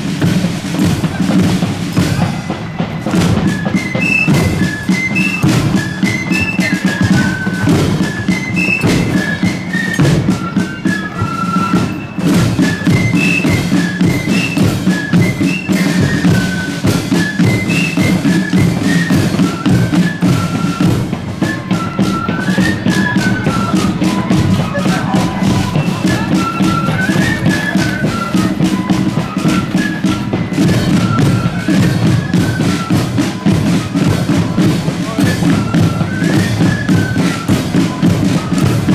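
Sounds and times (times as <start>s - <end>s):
flutes playing melody: 0.0s - 38.9s
side drums rattling: 0.0s - 38.9s.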